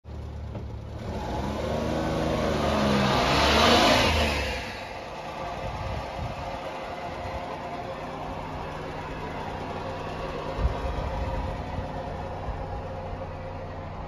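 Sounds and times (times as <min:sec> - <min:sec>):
small truck engine: 0:00.0 - 0:14.0.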